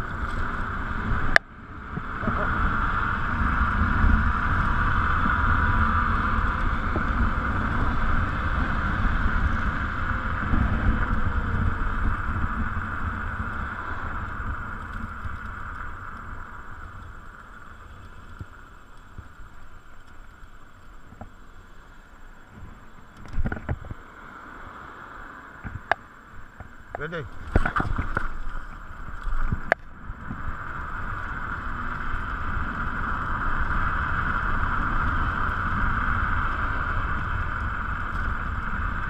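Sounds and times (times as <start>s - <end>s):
electric scooter hum: 0.0s - 39.0s
wind rushing over microphone: 0.0s - 39.0s.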